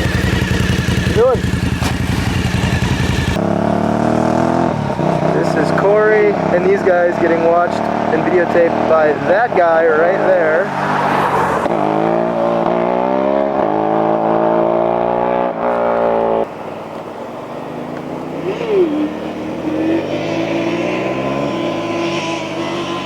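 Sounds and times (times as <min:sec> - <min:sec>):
motorcycle engine revving: 0:00.0 - 0:16.5, 0:17.3 - 0:23.0.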